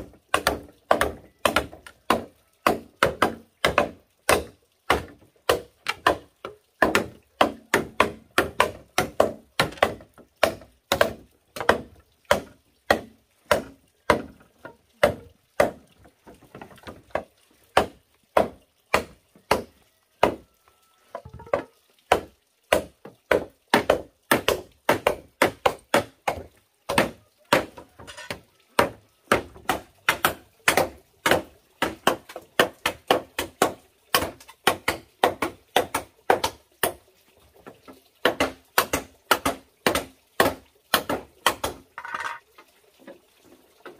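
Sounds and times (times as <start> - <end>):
machete chopping bamboo: 0.3 - 15.8, 17.1 - 20.4, 21.4 - 37.0, 38.2 - 41.8.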